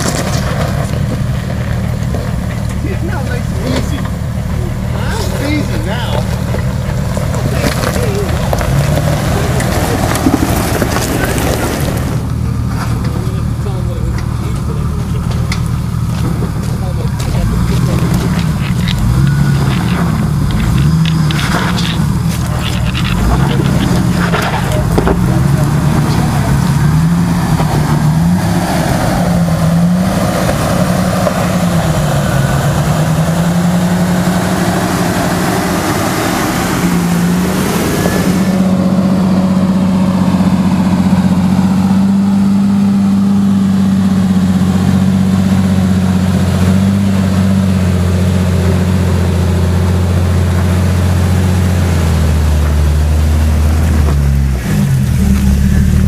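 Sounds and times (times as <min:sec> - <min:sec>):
off-road vehicle engines crawling: 0:00.0 - 0:56.0.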